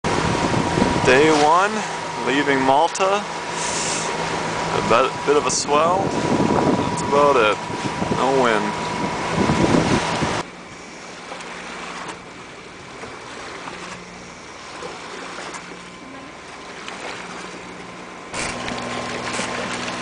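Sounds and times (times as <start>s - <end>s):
faint low engine hum: 0.0s - 20.0s
water washing along a hull: 0.0s - 20.0s.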